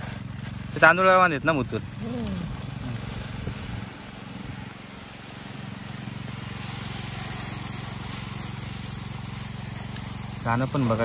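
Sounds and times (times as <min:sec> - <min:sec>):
seed pouring into plastic basin: 0:00.0 - 0:11.0
tractor engine running: 0:00.0 - 0:11.0.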